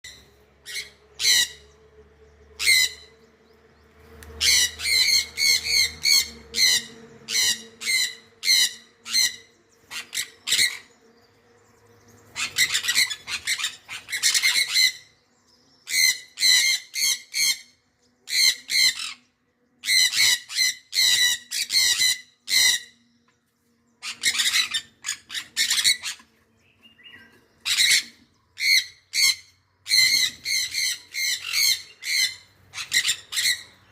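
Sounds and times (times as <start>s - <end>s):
bird squawking: 0.1s - 1.8s, 2.6s - 3.2s, 4.4s - 11.1s, 12.3s - 15.2s, 15.9s - 23.1s, 24.0s - 33.9s.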